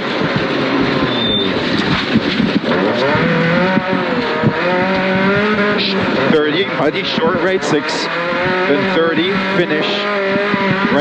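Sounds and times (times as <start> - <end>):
rally car engine pulling hard: 0.0 - 11.0
tyre and road noise: 0.0 - 11.0.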